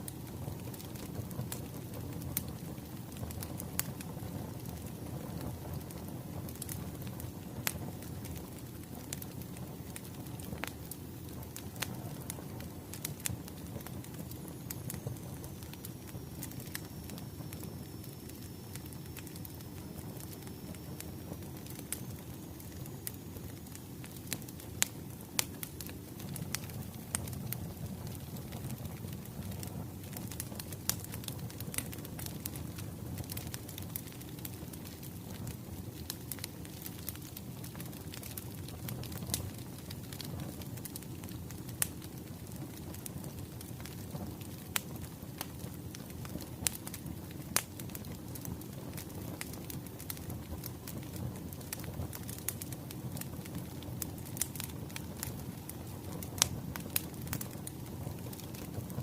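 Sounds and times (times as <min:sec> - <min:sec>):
low burning rumble: 0:00.0 - 0:59.0
wood fire popping and snapping: 0:00.0 - 0:59.0.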